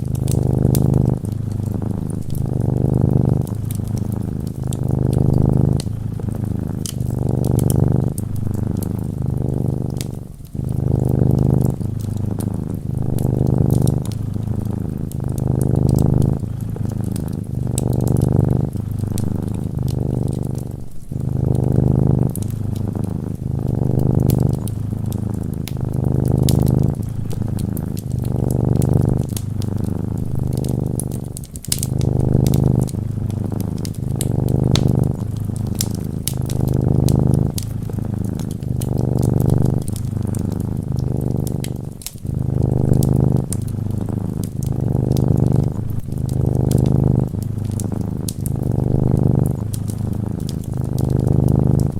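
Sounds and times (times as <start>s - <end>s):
cat purring: 0.0s - 51.9s
fireplace crackles: 0.0s - 51.9s.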